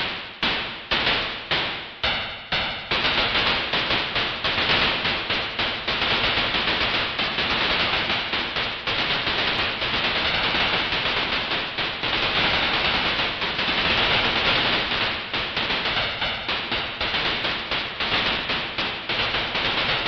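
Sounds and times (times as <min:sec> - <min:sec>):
sci-fi weapon firing bursts: 0:00.0 - 0:20.0.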